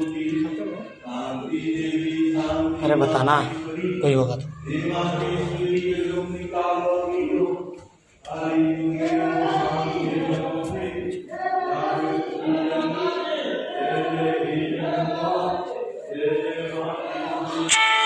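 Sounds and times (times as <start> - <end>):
voices chanting together: 0.0 - 18.0.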